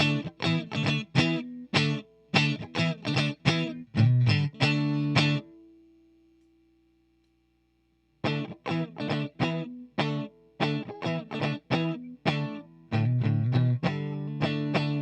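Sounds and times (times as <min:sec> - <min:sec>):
electric guitar strumming chords: 0:00.0 - 0:05.7, 0:08.2 - 0:15.0.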